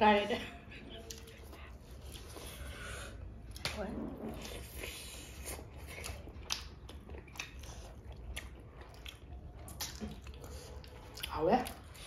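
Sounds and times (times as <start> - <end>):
person chewing with crunches: 0.8 - 12.0.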